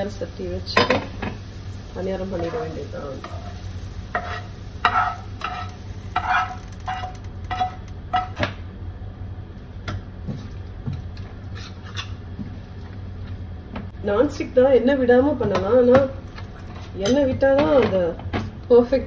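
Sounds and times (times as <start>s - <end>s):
range hood fan hum: 0.0s - 19.0s.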